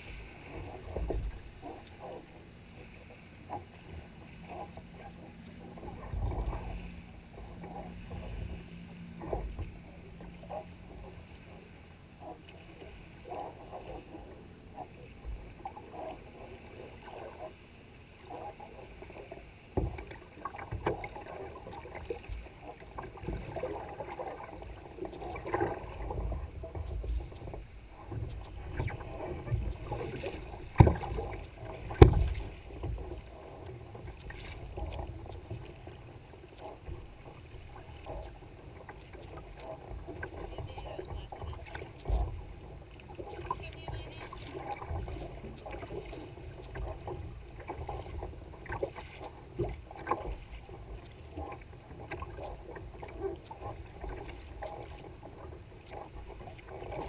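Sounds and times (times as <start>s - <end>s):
water lapping against kayak hull: 0.0s - 57.0s.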